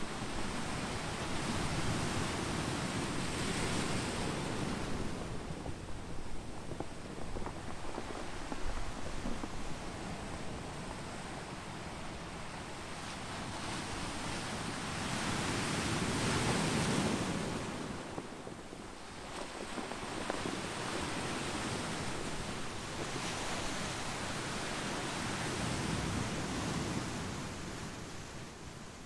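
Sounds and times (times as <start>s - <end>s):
surf washing over pebbles: 0.0s - 29.0s.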